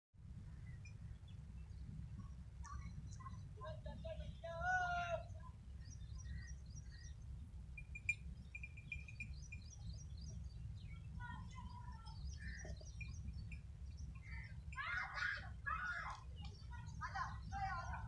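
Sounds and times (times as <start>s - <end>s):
small birds chirping: 0.5s - 18.0s.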